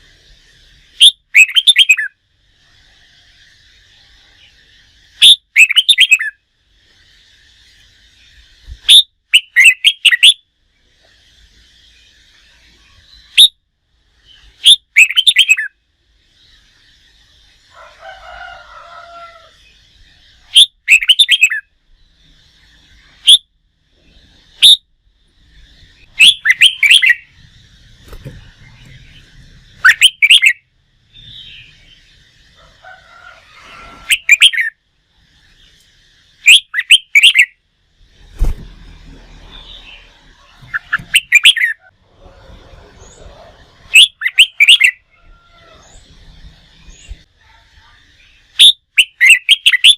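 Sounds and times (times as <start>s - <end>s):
bird singing chirpy phrases: 0.5s - 2.2s, 3.6s - 6.4s, 7.4s - 17.6s, 19.6s - 32.6s, 34.1s - 37.6s, 38.2s - 45.0s, 45.6s - 49.9s.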